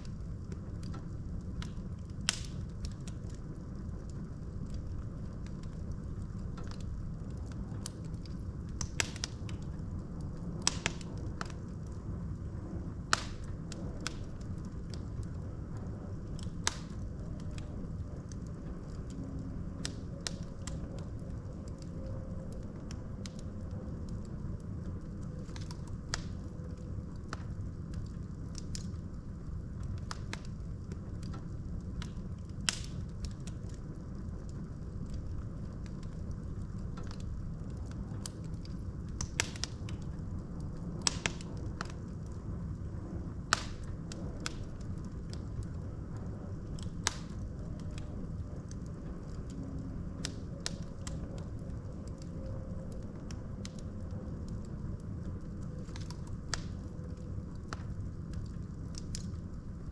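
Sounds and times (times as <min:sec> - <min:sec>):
fire rumbling: 0:00.0 - 0:59.9
logs crackling and popping: 0:00.0 - 0:59.9.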